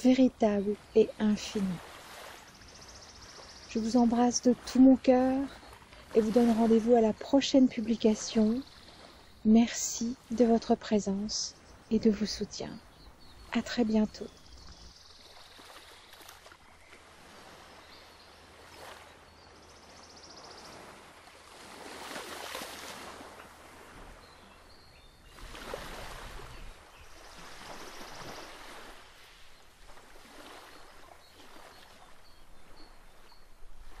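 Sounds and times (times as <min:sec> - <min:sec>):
faint rushing water: 0:00.0 - 0:34.0.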